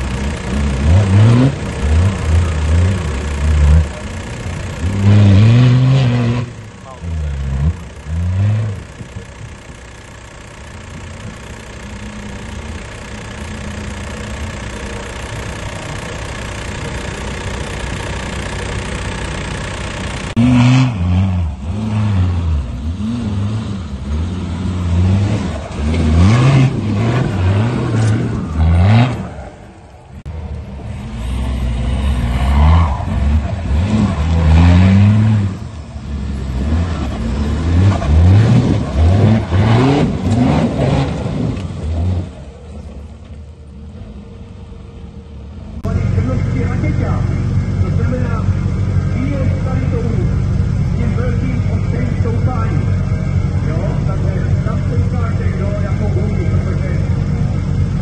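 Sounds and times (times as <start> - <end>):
off-road car engine revving: 0.0 - 58.0.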